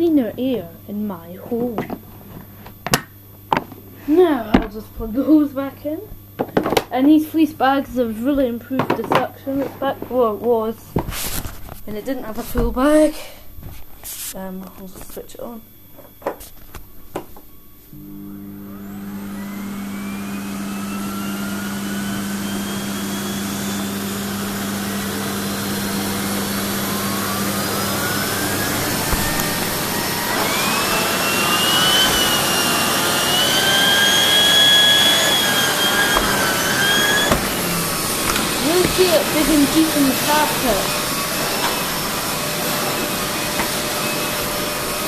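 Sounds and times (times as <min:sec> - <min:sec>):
vacuum cleaner motor whine: 0:00.0 - 0:45.0.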